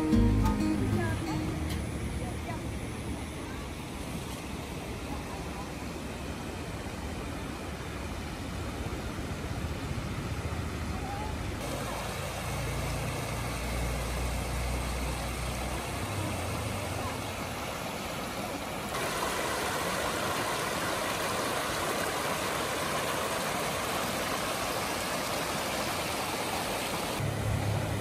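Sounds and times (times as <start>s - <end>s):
stream rushing: 0.0s - 10.6s, 11.6s - 28.0s.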